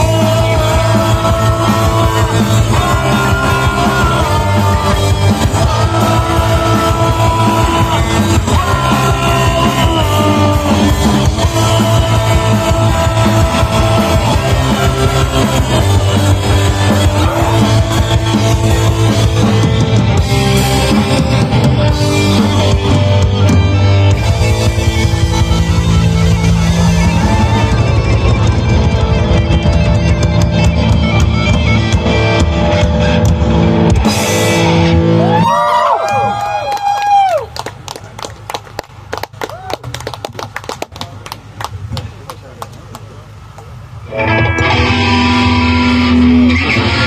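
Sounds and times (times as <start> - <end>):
distorted guitars: 0.0 - 36.5, 43.7 - 47.0
bass guitar: 0.0 - 40.4, 42.8 - 47.0
drumming: 0.0 - 40.8.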